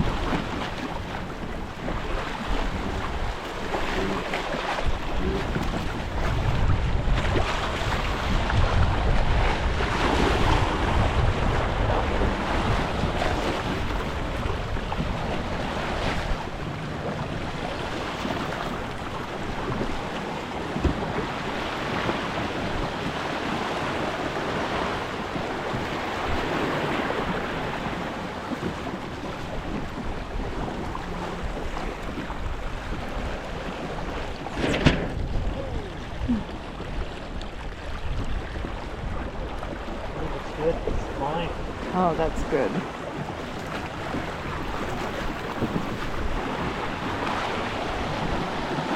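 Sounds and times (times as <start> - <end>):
water splashing along a hull: 0.0 - 48.9
wind buffeting microphone: 0.0 - 48.9.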